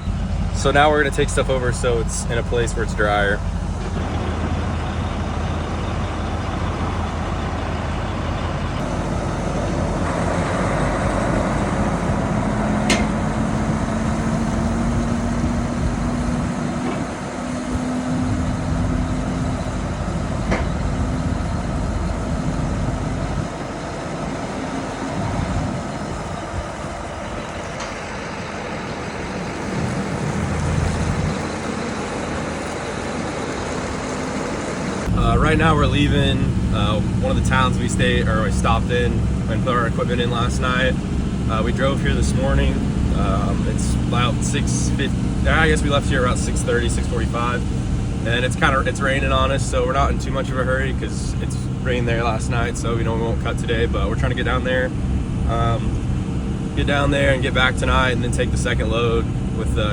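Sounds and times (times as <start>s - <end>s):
heavy vehicle engine running: 0.0s - 59.9s.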